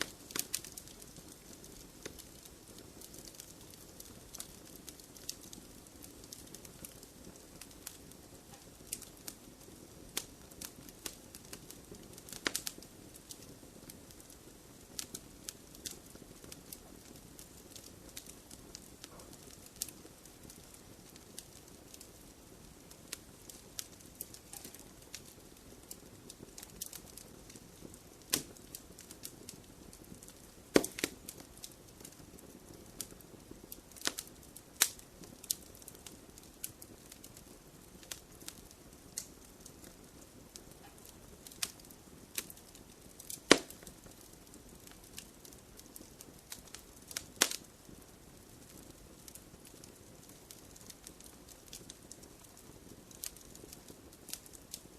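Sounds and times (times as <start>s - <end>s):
low steady hiss: 0.0s - 54.9s
wood fire crackling and popping: 0.0s - 54.9s.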